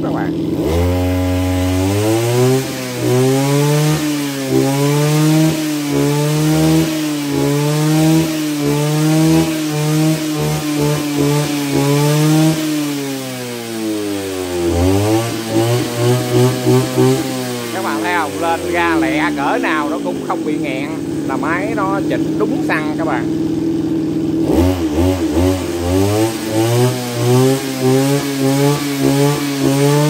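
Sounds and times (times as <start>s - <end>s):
brush cutter engine revving: 0.0s - 30.0s.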